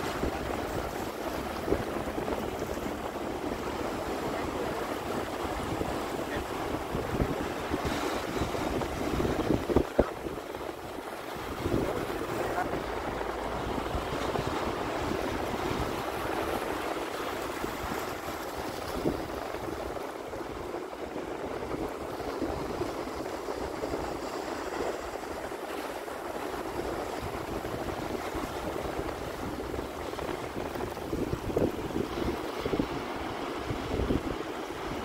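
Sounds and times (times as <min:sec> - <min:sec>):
small waves washing over rocks: 0:00.0 - 0:35.0
wind buffeting microphone: 0:00.0 - 0:35.0.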